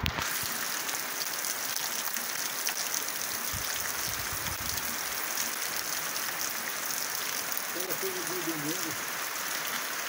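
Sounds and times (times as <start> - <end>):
heavy rain hiss: 0.0 - 10.0.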